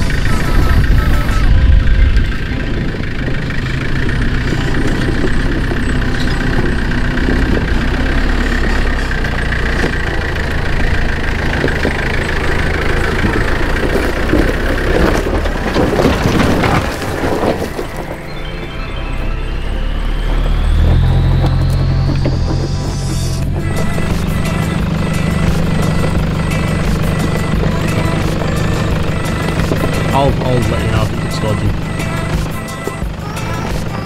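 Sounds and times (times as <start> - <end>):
diesel engine running at low revs: 0.0 - 34.0.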